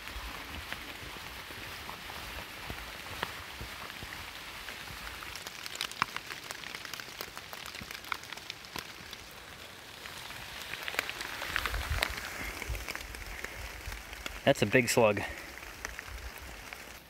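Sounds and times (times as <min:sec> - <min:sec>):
light rain hissing: 0:00.0 - 0:17.0
raindrops ticking: 0:00.0 - 0:17.0.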